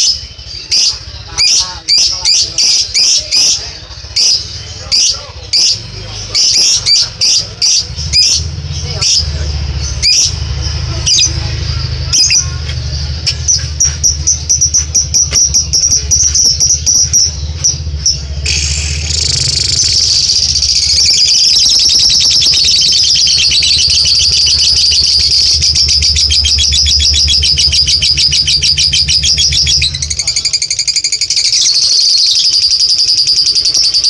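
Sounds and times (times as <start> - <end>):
bird fast chattering trill: 0.0 - 34.0
bird high chirps: 0.0 - 34.0.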